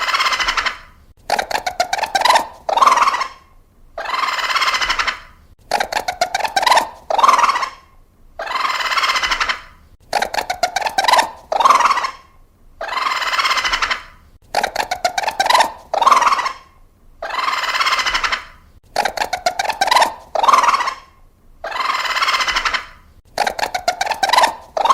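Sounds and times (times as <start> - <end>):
raccoon calling: 0.0 - 24.9.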